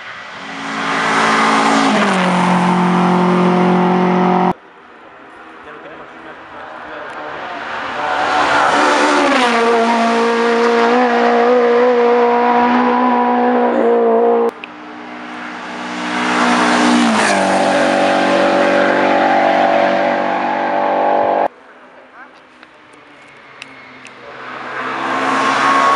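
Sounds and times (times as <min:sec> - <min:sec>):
race cars passing at full throttle: 0:00.0 - 0:25.9.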